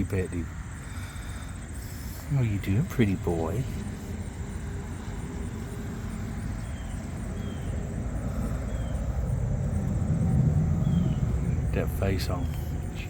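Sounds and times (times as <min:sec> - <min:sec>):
vehicle low rumble: 0:00.0 - 0:13.0.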